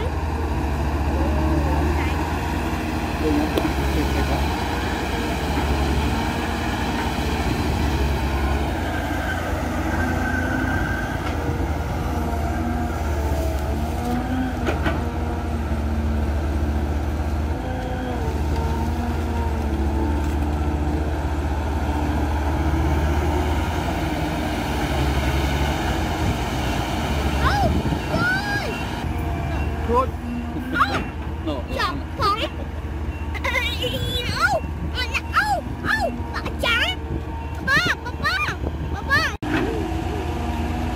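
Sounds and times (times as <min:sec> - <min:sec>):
excavator diesel engine drone: 0:00.0 - 0:40.9.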